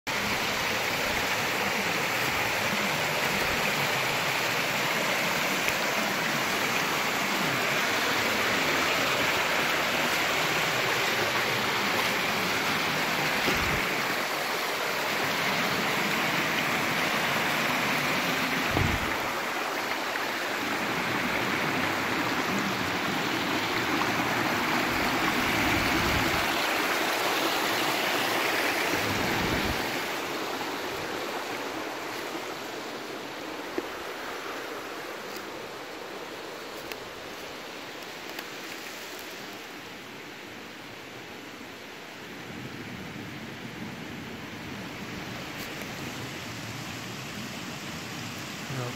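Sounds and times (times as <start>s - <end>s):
stream running over rocks: 0.1s - 48.9s.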